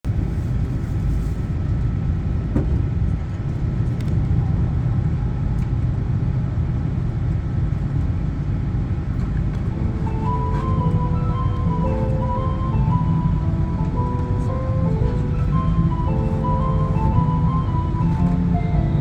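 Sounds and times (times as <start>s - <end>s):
train cabin rumble: 0.1s - 19.0s.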